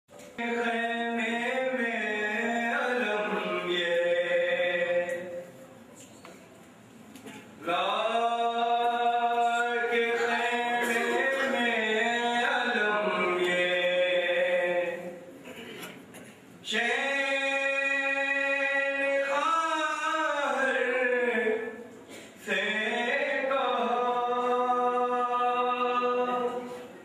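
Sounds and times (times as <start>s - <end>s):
man chanting: 0.4s - 5.5s, 7.6s - 15.3s, 16.6s - 26.8s.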